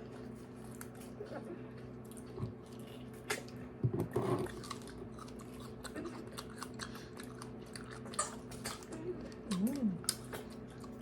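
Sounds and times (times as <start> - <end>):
person chewing wetly: 0.1 - 11.0.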